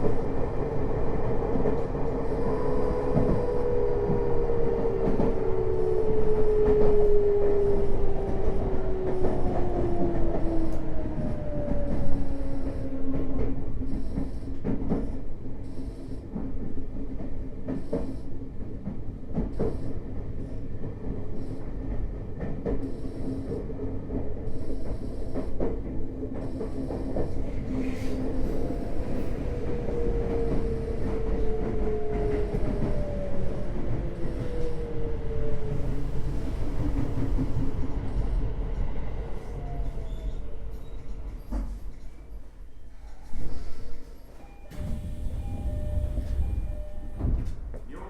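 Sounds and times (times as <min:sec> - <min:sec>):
wheels rumbling on rails: 0:00.0 - 0:15.6, 0:16.3 - 0:48.0
train inverter whine: 0:00.0 - 0:42.8, 0:44.0 - 0:48.0
rail joint clicks: 0:00.0 - 0:48.0.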